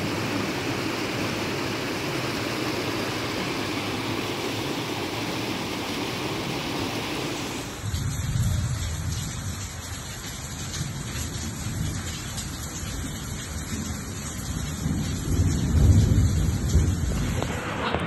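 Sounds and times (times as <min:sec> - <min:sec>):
heavy rain on floodwater: 0:00.0 - 0:18.0.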